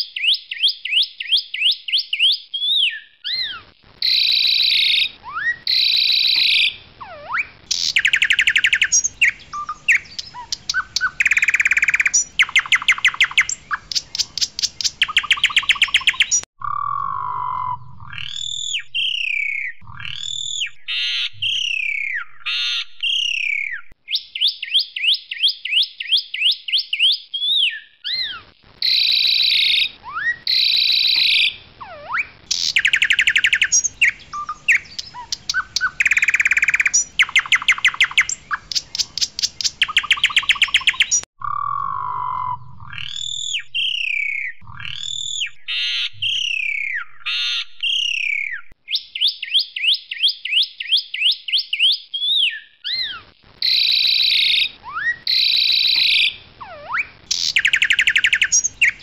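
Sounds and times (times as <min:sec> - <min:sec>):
starling singing: 0:02.8 - 0:23.9, 0:27.6 - 0:48.8, 0:52.4 - 0:59.0.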